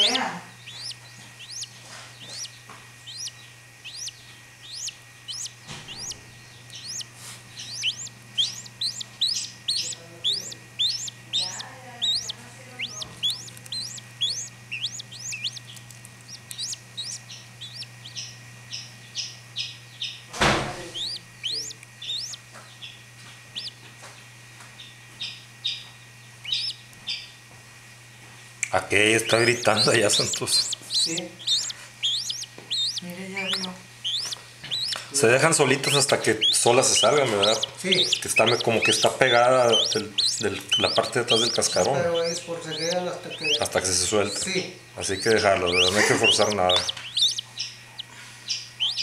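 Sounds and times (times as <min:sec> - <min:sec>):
chick peeping: 0:00.0 - 0:23.9, 0:24.8 - 0:27.4, 0:28.7 - 0:49.0.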